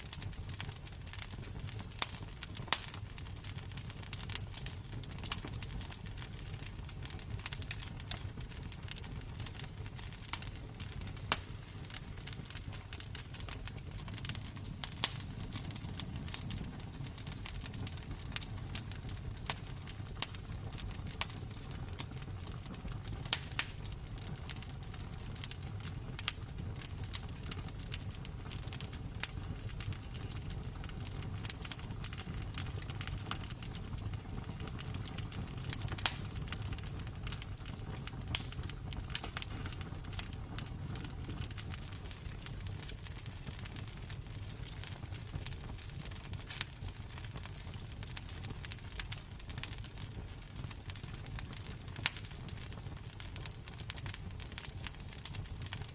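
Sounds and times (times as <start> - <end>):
low fire rumble: 0.0 - 55.9
wood fire crackling: 0.0 - 55.9.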